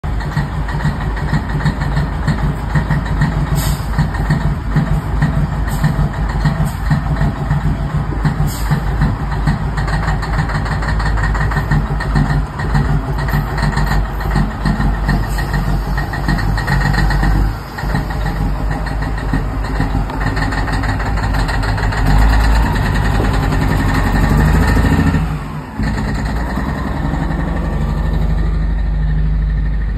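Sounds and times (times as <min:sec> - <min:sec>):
diesel truck engine droning: 0:00.0 - 0:29.9.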